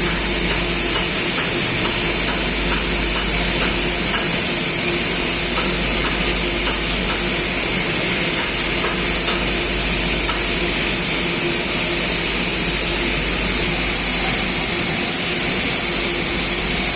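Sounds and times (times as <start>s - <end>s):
furnace burner hiss: 0.0s - 16.9s.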